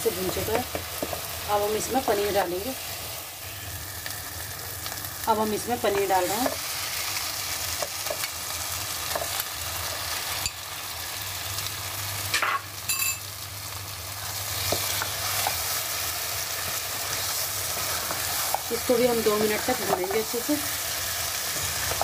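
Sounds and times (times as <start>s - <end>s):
paste sizzling in a pan: 0.0s - 22.0s.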